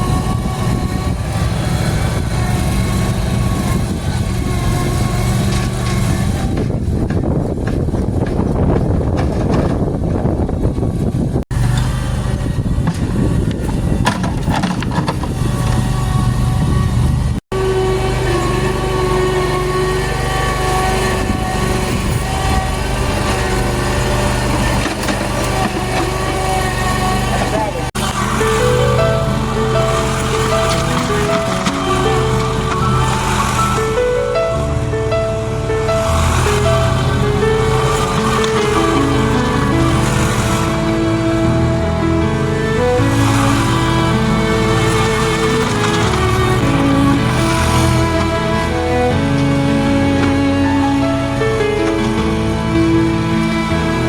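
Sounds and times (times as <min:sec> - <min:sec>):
engine low rumble: 0:00.0 - 0:54.0
steady machine whine: 0:00.0 - 0:54.0.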